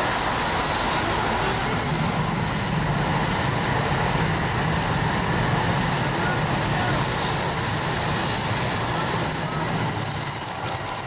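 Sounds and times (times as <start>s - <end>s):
electric train rolling rumble: 0.0s - 11.0s.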